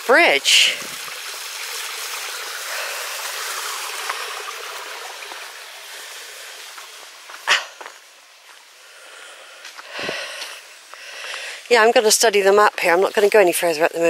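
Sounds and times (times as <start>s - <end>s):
stream trickling over stones: 0.0s - 14.0s.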